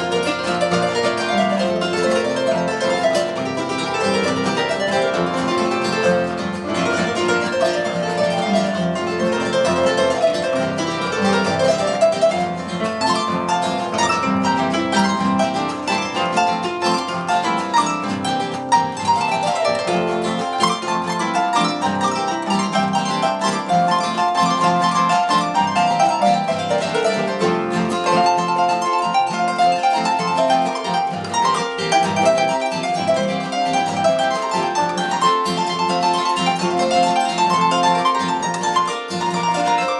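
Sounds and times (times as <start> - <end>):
harp playing: 0.0 - 39.9.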